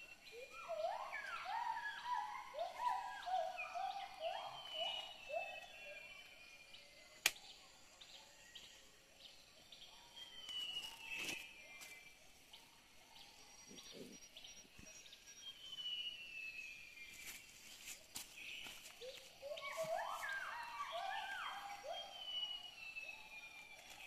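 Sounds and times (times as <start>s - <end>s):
bird chirps: 0.0s - 24.0s.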